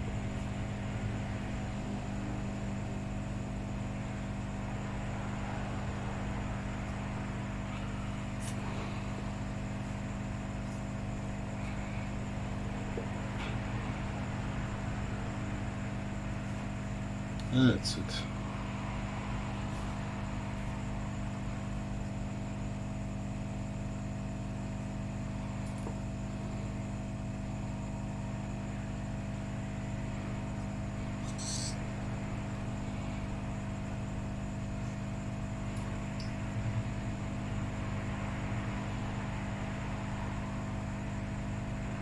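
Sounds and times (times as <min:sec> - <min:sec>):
electrical hum: 0:00.0 - 0:42.0.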